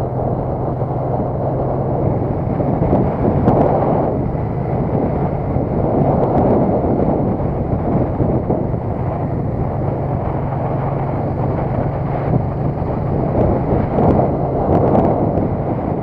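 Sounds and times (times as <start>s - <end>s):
low engine drone: 0.0s - 16.0s
wind rushing over microphone: 0.0s - 16.0s.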